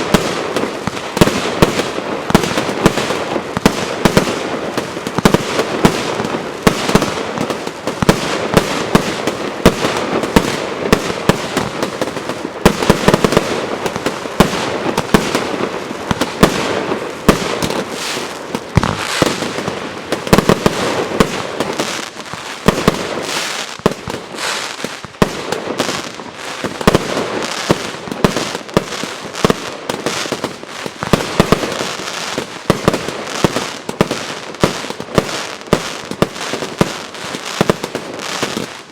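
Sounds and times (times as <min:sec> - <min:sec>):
firework barrage: 0:00.0 - 0:38.9.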